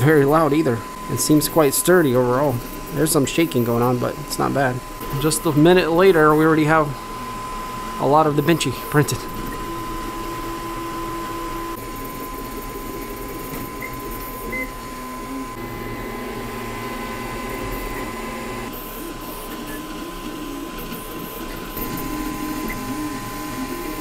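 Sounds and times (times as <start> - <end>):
steady high hum: 0.0 - 24.0
stepper motors whining: 0.0 - 24.0.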